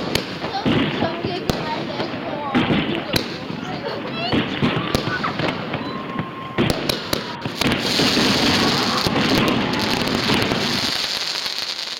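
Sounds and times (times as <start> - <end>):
fireworks bangs: 0.0 - 11.9
fireworks crackling: 0.0 - 11.9.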